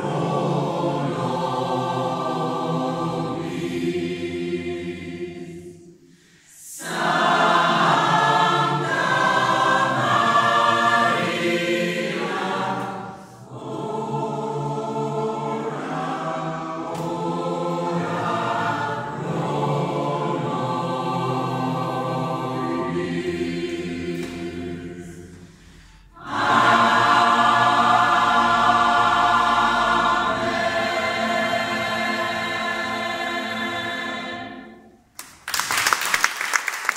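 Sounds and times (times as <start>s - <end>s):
mixed choir singing: 0.0s - 35.0s.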